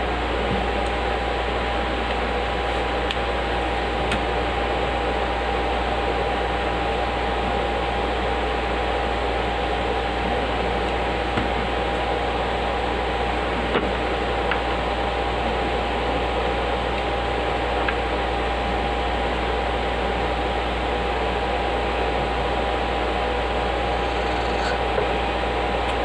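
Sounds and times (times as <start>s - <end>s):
cooling fans whirring: 0.0s - 26.0s.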